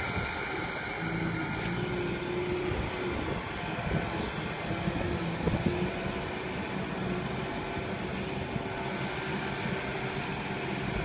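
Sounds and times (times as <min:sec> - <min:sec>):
tractor diesel engines running: 0:00.0 - 0:11.0.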